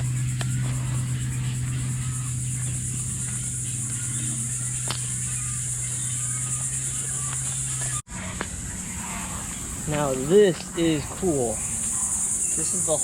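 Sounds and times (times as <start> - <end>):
faint bird calls: 0.0 - 13.0
insect drone: 0.0 - 13.0
low steady hum: 0.0 - 13.0.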